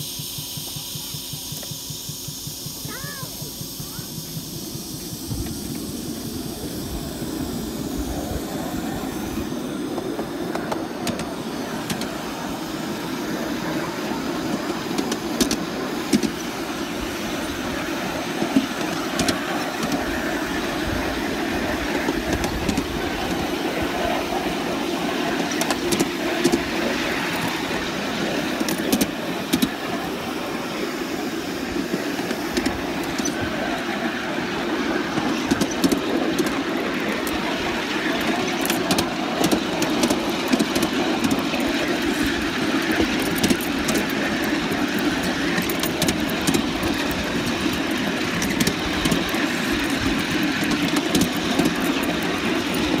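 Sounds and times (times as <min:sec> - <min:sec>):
model steam train rumbling: 0:00.0 - 0:53.0.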